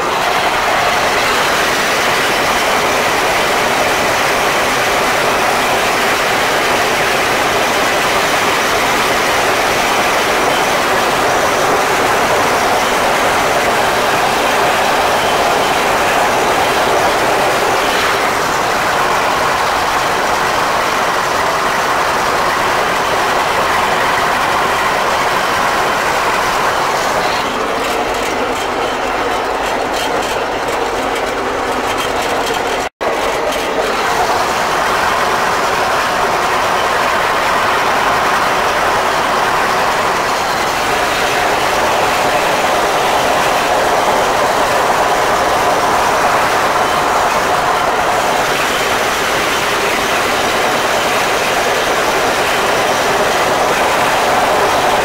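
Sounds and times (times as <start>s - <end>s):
mower engine and header din: 0.0s - 55.0s.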